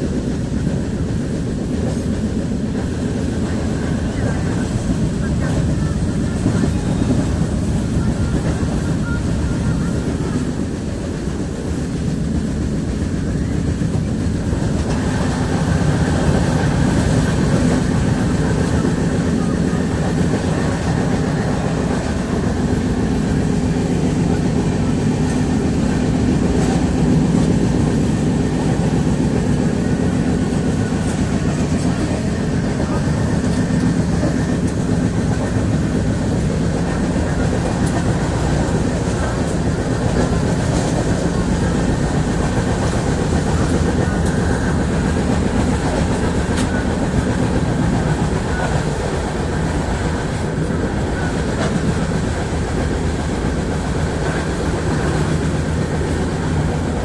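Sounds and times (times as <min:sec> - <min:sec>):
loud steady rumbling: 0:00.0 - 0:57.0.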